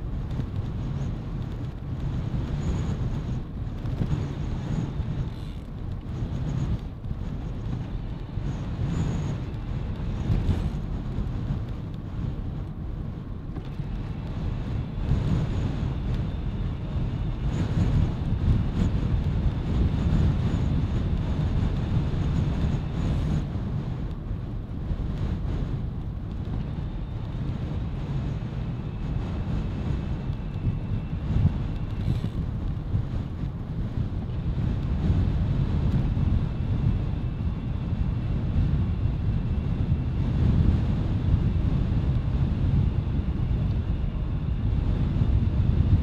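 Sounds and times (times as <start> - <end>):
bike tyres rolling on tarmac: 0.0 - 46.0
wind buffeting microphone: 0.0 - 46.0.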